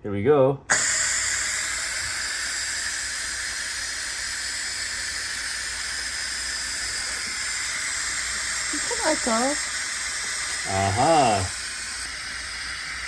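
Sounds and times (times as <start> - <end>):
pressure cooker steam hissing: 0.7 - 13.0.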